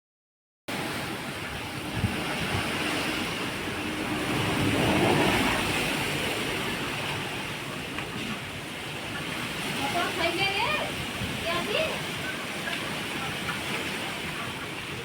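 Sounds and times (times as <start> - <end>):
strong wind with rain: 0.7 - 15.0.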